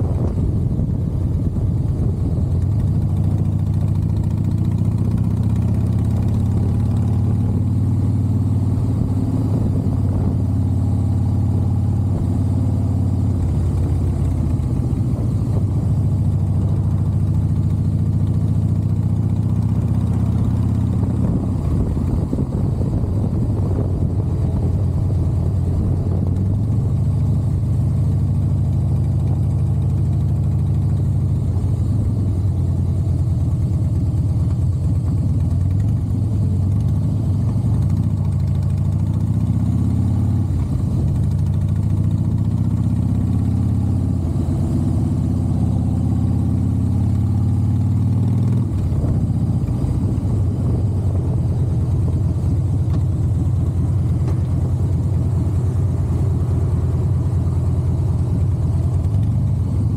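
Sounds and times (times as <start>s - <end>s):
motorcycle engine rumble: 0.0s - 59.9s.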